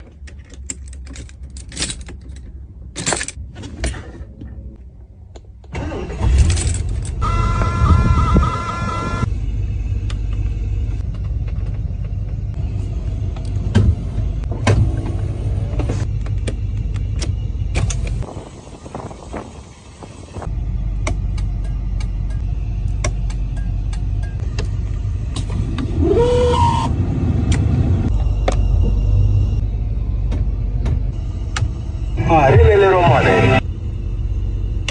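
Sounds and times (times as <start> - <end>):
car rumbling: 0.0 - 34.9.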